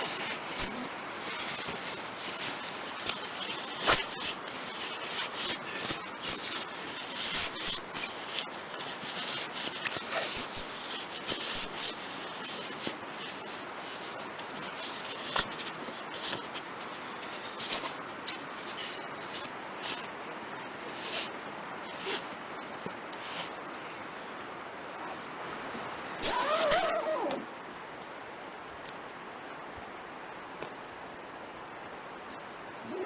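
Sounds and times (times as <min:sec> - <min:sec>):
fabric rustling and crackling: 0:00.0 - 0:27.5.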